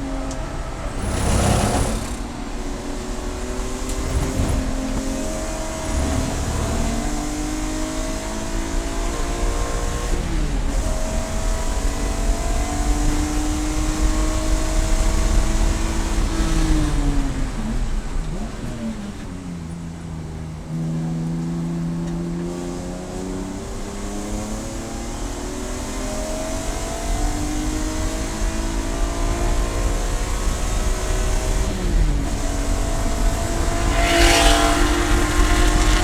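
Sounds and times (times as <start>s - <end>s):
race car engine accelerating: 0.0s - 36.0s.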